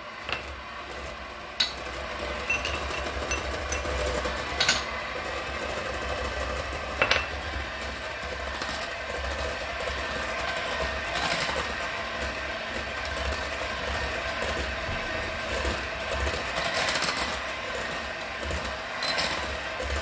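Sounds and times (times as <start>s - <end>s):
electric mixer whirring: 0.0s - 20.0s.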